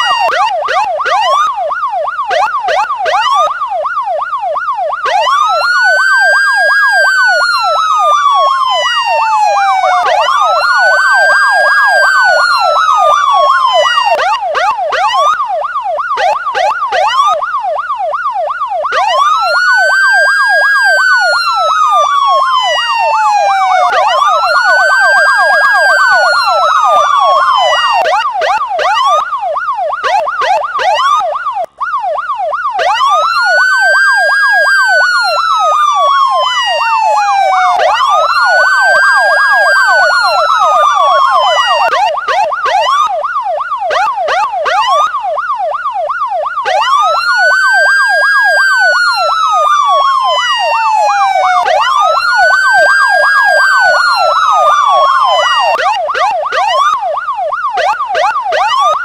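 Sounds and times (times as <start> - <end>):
police siren fast yelp: 0.0 - 59.0
police siren slow wail: 0.0 - 59.0.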